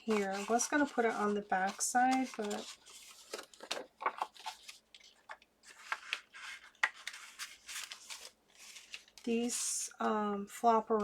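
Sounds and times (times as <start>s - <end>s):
paper rustling and sliding: 0.0s - 9.2s.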